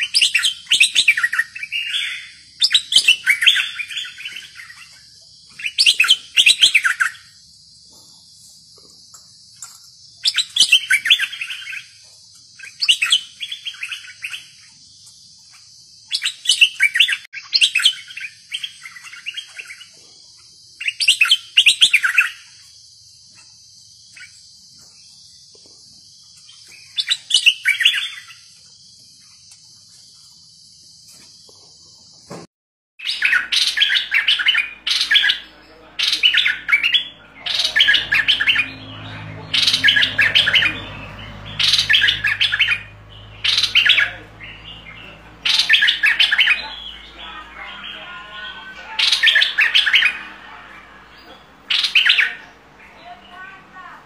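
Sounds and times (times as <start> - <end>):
bulbul singing: 0.0 - 29.7, 33.0 - 54.0.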